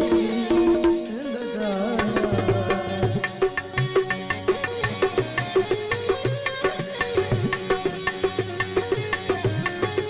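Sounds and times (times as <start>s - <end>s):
hand drum beat: 0.0s - 10.0s
stringed instrument melody: 0.0s - 10.0s.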